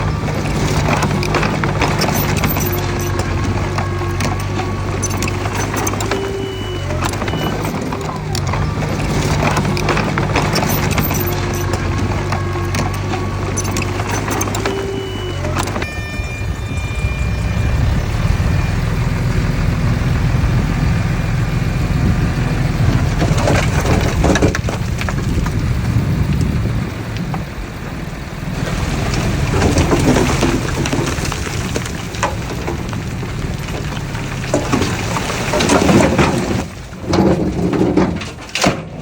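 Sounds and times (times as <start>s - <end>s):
diesel engine under load: 0.0s - 39.0s
soil and stones crunching: 0.0s - 39.0s.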